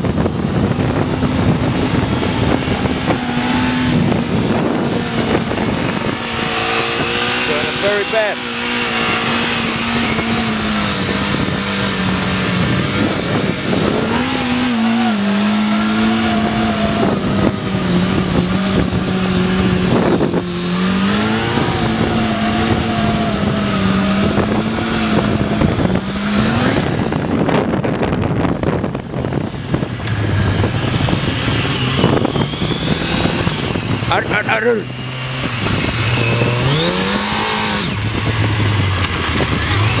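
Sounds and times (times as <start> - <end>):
motorcycle engine revving high: 0.0 - 40.0.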